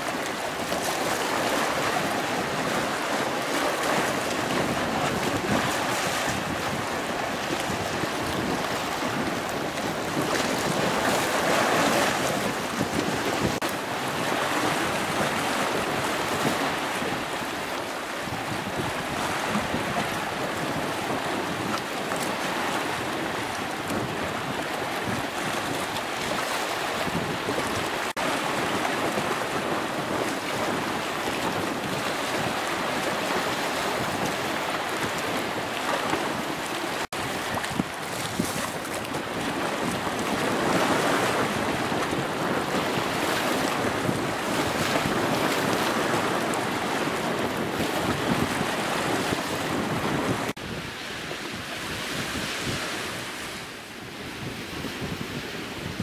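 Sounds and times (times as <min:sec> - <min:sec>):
sea water splashing: 0:00.0 - 0:54.2
wind buffeting microphone: 0:00.0 - 0:56.0.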